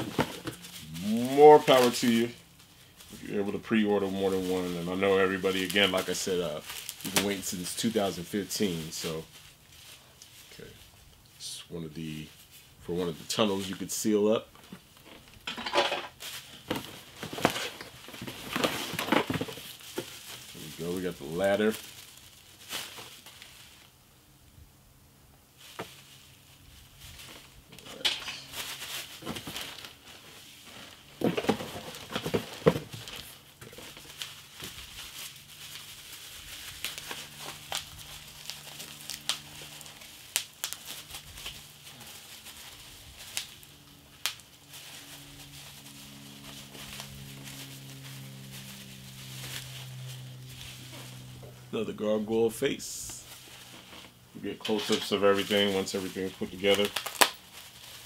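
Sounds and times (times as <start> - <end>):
bubble wrap crinkling: 0.0 - 15.5, 16.1 - 24.4, 25.4 - 58.0.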